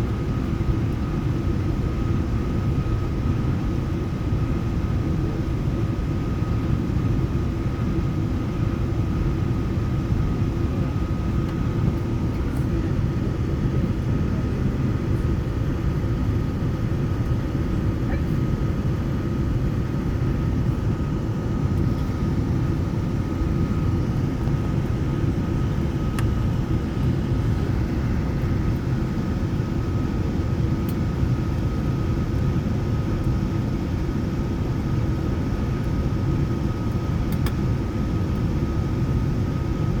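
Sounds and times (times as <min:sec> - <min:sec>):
thin steady whine: 0:00.0 - 0:39.9
jet aircraft low rumble: 0:00.0 - 0:40.0.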